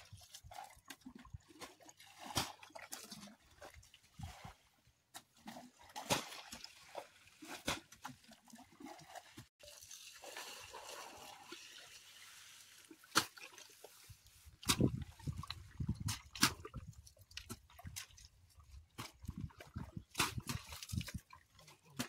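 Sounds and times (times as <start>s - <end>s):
wet mud squelching: 0.0s - 9.5s, 12.4s - 22.0s.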